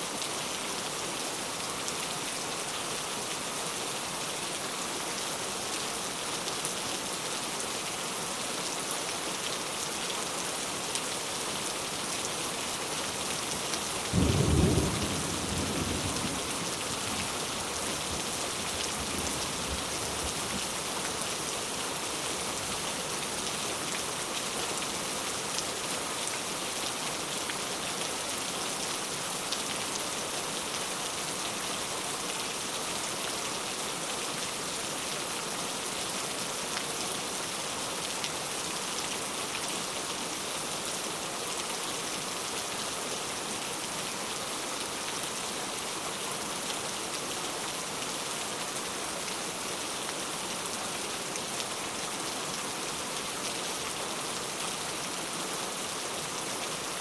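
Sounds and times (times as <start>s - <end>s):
steady rain pattering: 0.1s - 57.0s.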